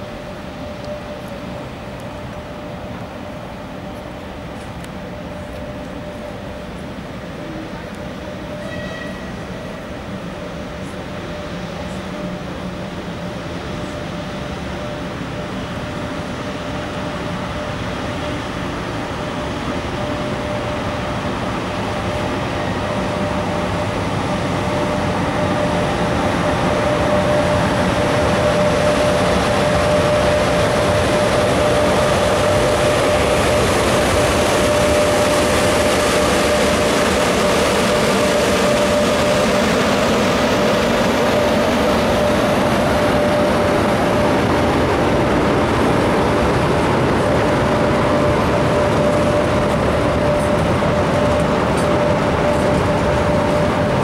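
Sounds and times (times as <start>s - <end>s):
steady whining tone: 0.0s - 54.0s
train rumbling past: 0.0s - 54.0s.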